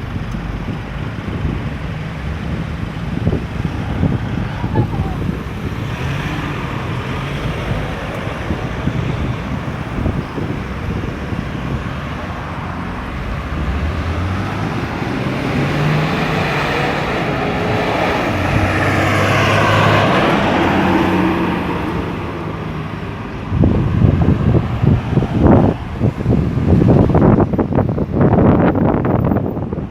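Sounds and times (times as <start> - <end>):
vehicle engines passing: 0.0 - 29.9.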